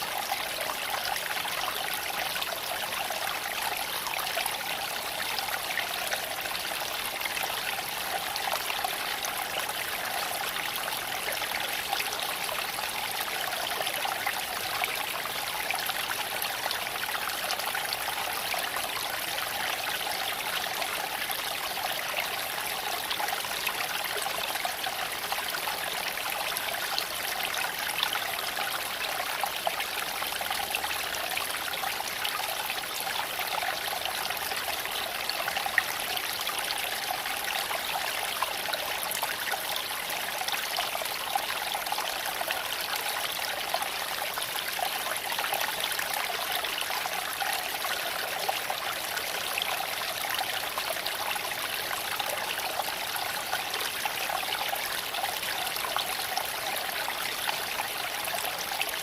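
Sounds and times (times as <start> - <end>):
creek water babbling over stones: 0.0 - 59.0.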